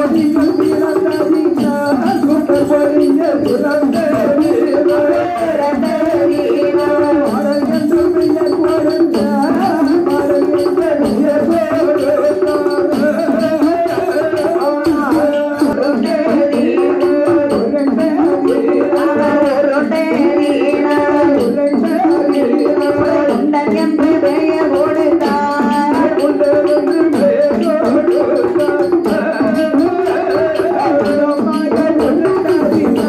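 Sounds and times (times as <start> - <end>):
beaten bow with bells: 0.0 - 33.0
percussion rhythm: 0.0 - 33.0
person singing melody: 0.0 - 33.0.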